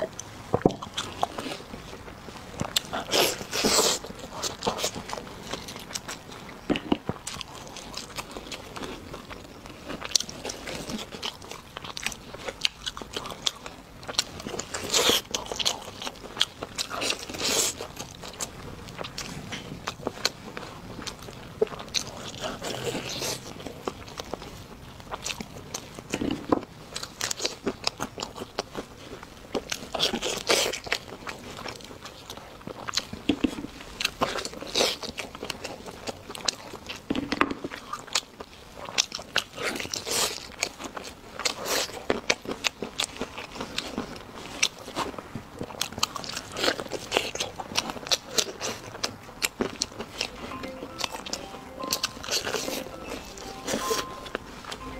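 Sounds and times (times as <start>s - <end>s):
person chewing meat: 0.0s - 54.9s.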